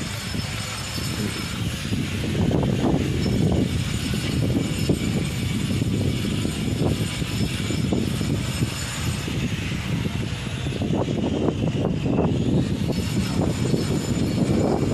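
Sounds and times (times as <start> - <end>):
vacuum pumps droning: 0.0 - 14.9.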